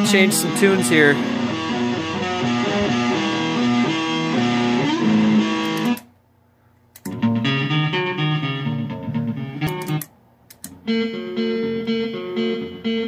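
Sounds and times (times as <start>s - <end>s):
guitar music through amplifier: 0.0s - 6.1s, 7.0s - 10.1s, 10.7s - 13.0s.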